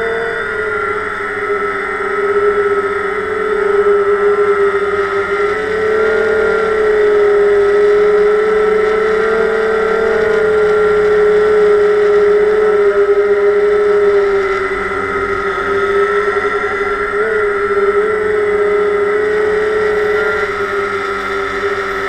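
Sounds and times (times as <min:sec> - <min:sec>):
drone propellers buzzing: 0:00.0 - 0:22.0.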